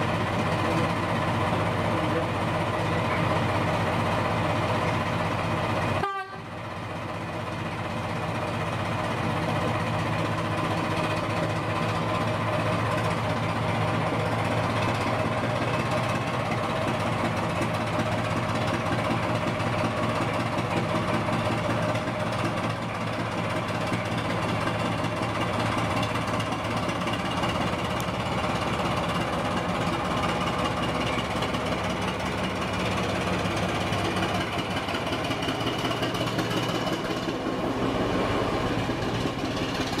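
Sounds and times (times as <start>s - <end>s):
locomotive diesel engine idling: 0.0s - 40.0s.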